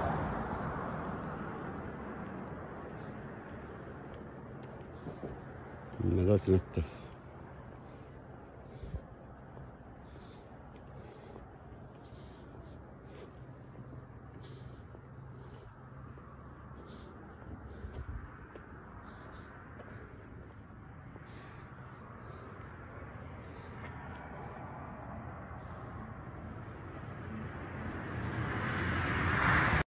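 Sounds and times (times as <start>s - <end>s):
crickets chirping: 0.0s - 29.7s.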